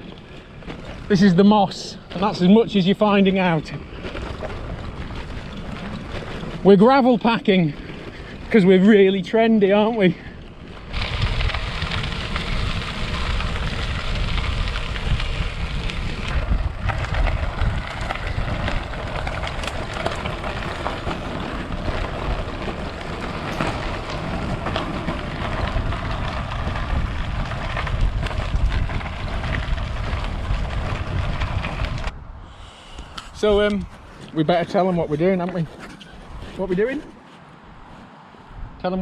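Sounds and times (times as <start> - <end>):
tyres rolling over gravel: 0.0 - 32.2, 32.9 - 38.1
wind buffeting microphone: 0.0 - 39.0.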